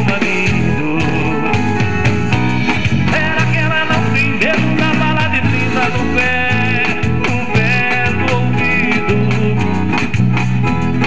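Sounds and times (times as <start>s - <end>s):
man singing into a microphone: 0.0s - 2.1s, 2.7s - 10.2s
guitar-led accompaniment: 0.0s - 11.0s.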